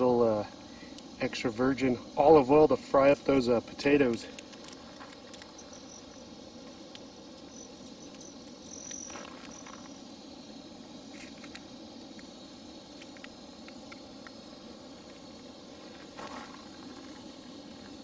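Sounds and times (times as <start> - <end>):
camping stove hissing: 0.0 - 18.0.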